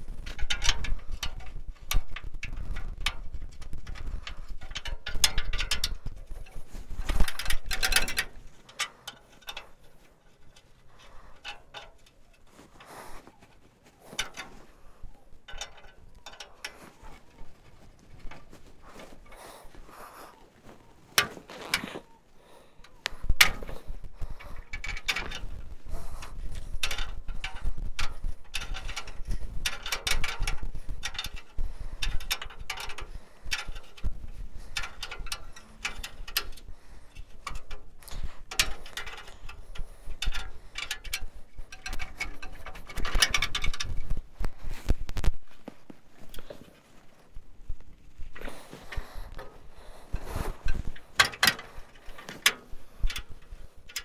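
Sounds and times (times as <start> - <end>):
hand tools clanking on metal: 0.2 - 45.0, 48.4 - 54.0.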